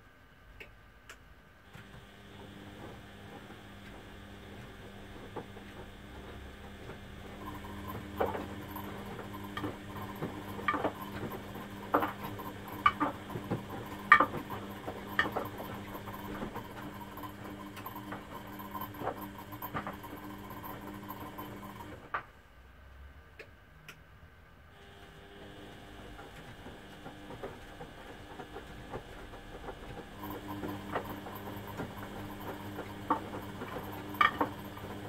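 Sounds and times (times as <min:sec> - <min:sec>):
washing machine motor hum: 0:01.6 - 0:22.2, 0:24.7 - 0:35.0.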